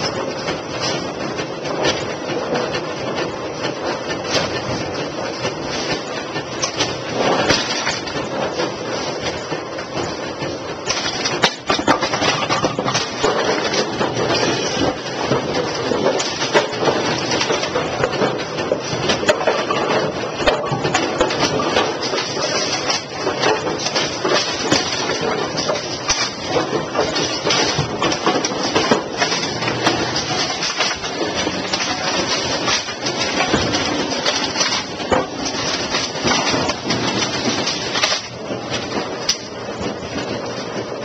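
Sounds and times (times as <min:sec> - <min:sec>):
pinsetter machine clatter: 0:00.0 - 0:41.0.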